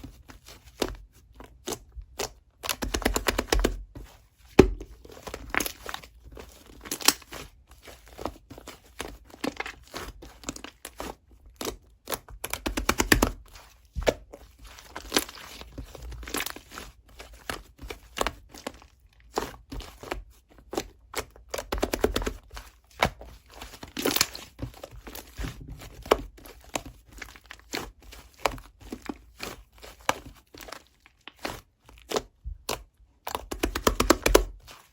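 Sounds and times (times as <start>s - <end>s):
crinkling and crackling: 0.0s - 34.9s.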